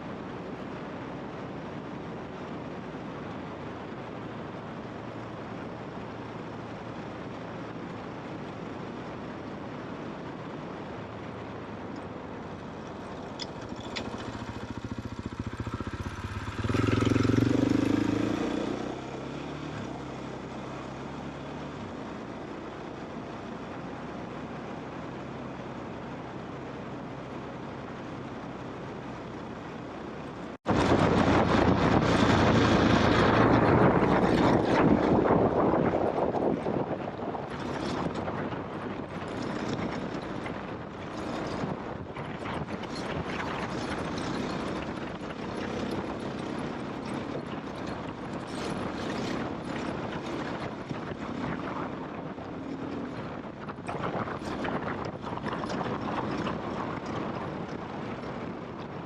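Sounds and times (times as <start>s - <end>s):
motorcycle engine running: 11.0s - 59.0s.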